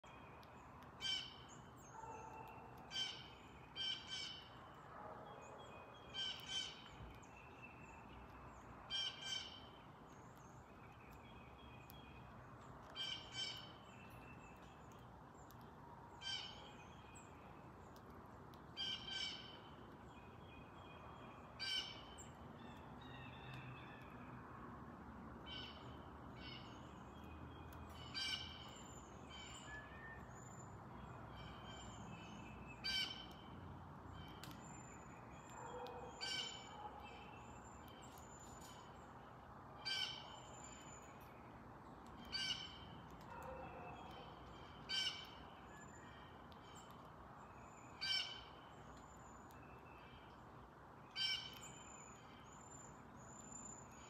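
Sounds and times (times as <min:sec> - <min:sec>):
faint birdsong: 0:00.0 - 0:54.0.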